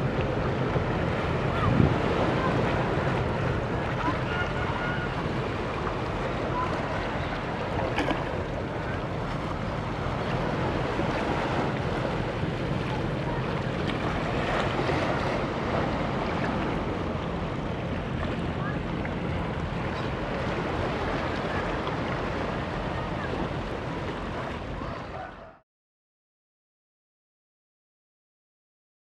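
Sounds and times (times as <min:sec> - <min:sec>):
wind buffeting microphone: 0:00.0 - 0:25.3
open-air waterfront noise: 0:00.0 - 0:25.6.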